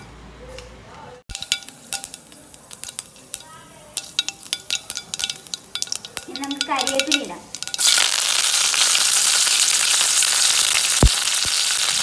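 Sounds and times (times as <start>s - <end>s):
mustard seeds popping in oil: 1.3s - 12.0s.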